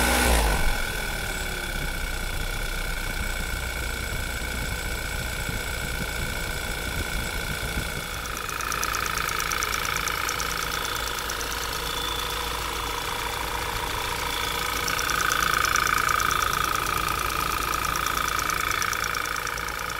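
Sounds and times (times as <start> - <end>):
car engine idling: 0.0 - 19.9
fast even engine ticking: 0.0 - 19.9.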